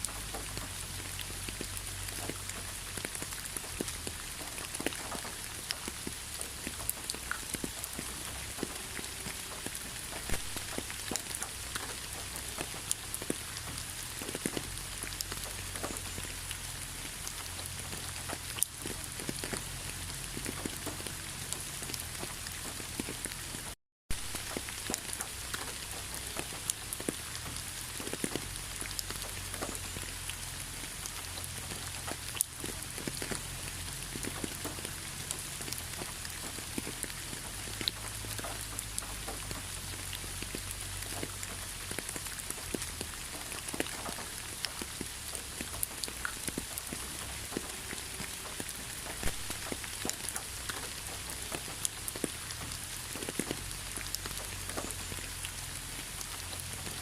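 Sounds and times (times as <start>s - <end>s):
raindrops clicking nearby: 0.0s - 57.0s
steady rainfall: 0.0s - 57.0s.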